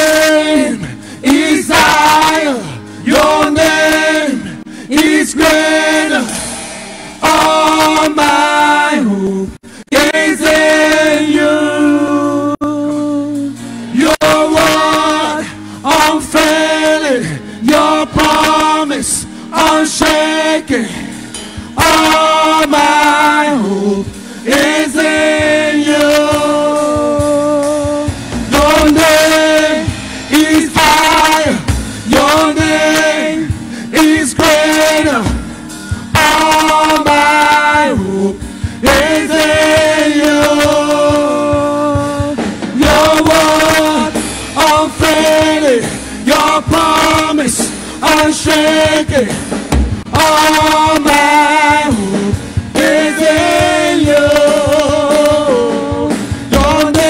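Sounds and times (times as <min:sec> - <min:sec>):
man singing: 0:00.0 - 0:06.3, 0:07.2 - 0:21.1, 0:21.8 - 0:49.5, 0:50.1 - 0:57.0
sustained keyboard chords: 0:00.0 - 0:57.0.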